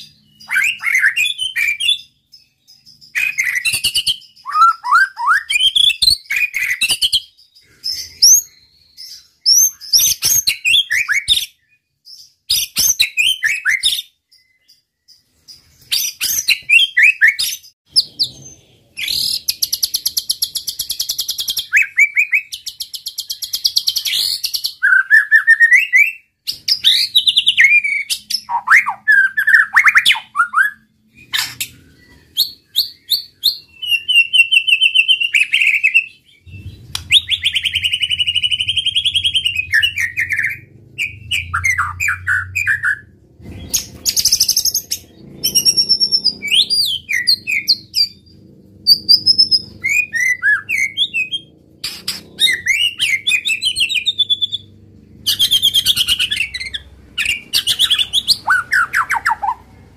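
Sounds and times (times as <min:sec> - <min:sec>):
songbird singing whistles and trills: 0:00.0 - 0:59.7.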